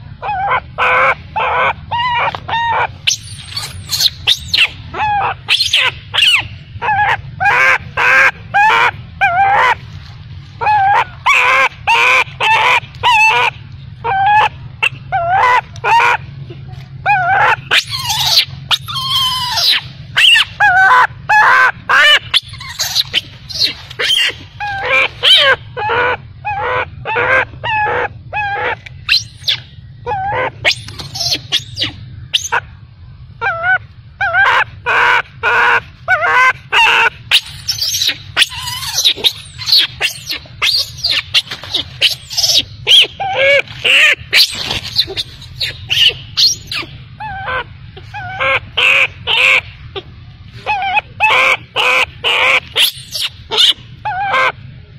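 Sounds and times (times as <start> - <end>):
infant monkey crying: 0.0 - 9.9, 10.6 - 54.9.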